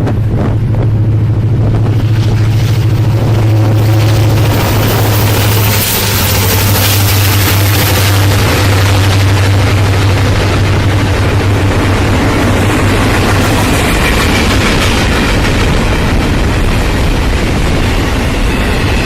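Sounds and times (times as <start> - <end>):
diesel locomotive engine drone: 0.0 - 19.0
train cars rumbling: 0.0 - 19.0.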